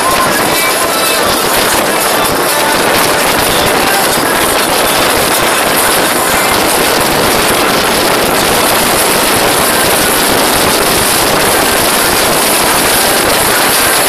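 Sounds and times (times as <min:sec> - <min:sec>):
motorboat wind and water rush: 0:00.0 - 0:14.0.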